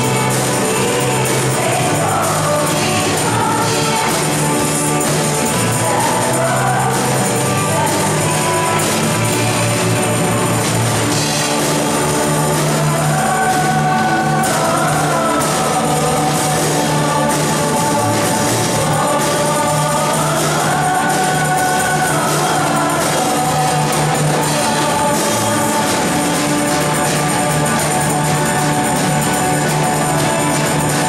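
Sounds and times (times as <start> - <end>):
live band playing worship song: 0.0 - 31.0
women singing together: 0.0 - 31.0.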